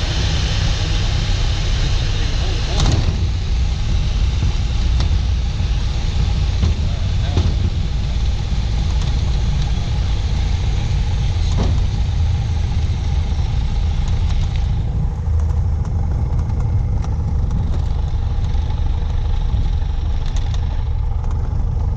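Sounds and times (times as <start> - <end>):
aircraft engine drone in cockpit: 0.0 - 21.9.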